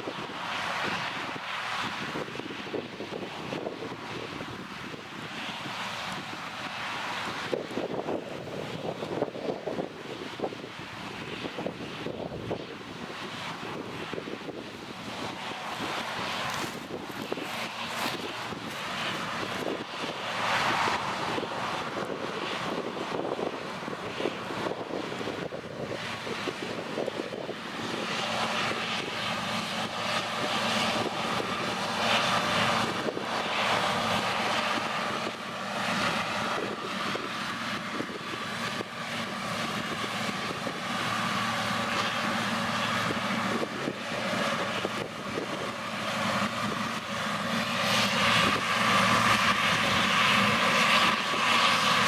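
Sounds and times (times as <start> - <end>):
engine drone: 0.0 - 52.0.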